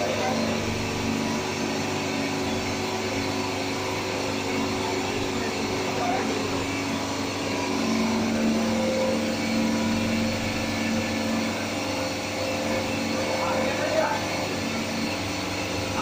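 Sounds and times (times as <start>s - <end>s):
hydraulic power unit humming: 0.0s - 16.0s.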